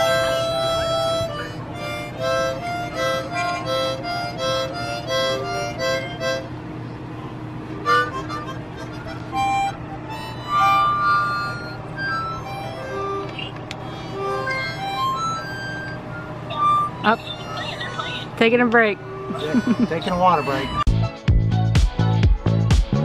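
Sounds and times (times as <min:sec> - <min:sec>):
child playing harmonica: 0:00.0 - 0:06.6, 0:07.8 - 0:18.3, 0:19.0 - 0:20.9.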